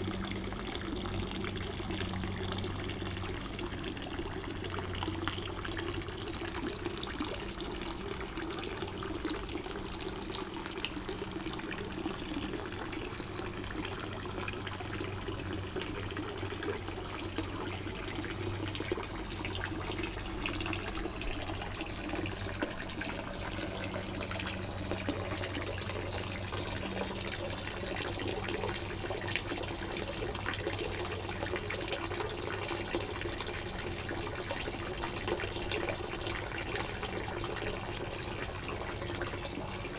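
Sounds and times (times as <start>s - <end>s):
fountain splashing into pond: 0.0s - 39.9s
low steady hum: 0.0s - 39.9s.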